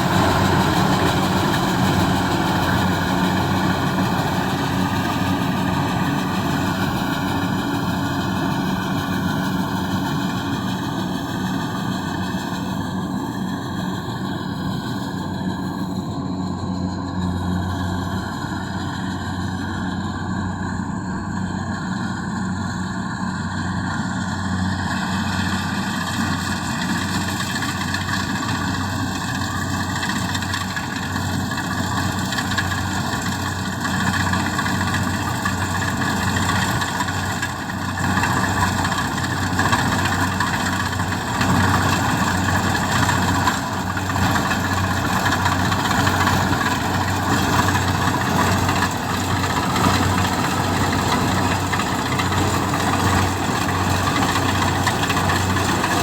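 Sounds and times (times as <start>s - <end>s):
diesel engine running: 0.0s - 56.0s
wide mechanical rush: 0.0s - 56.0s.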